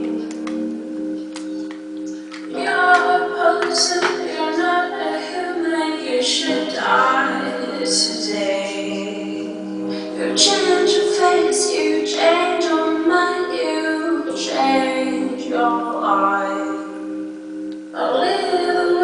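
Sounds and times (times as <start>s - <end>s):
woman singing over chords: 0.0s - 19.0s.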